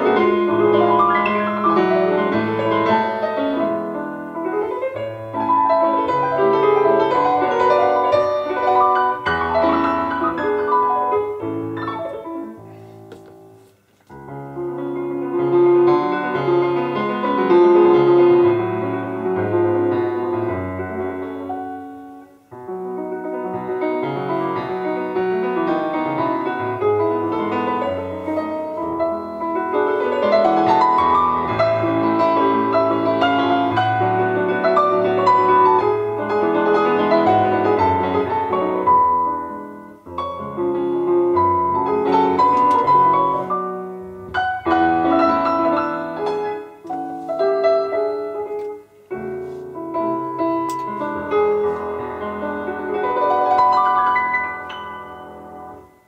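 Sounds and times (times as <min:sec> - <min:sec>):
solo piano march: 0:00.0 - 0:56.0.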